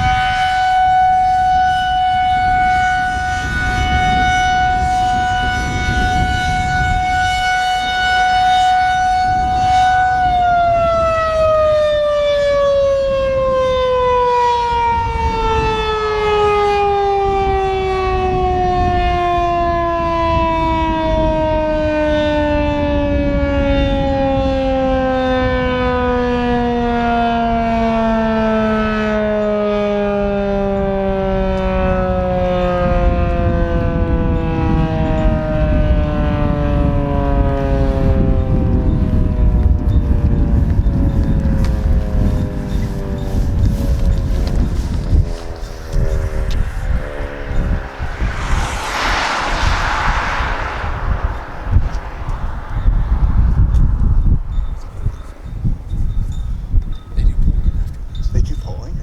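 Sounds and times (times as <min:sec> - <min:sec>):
warning siren steady tone: 0:00.0 - 0:58.2.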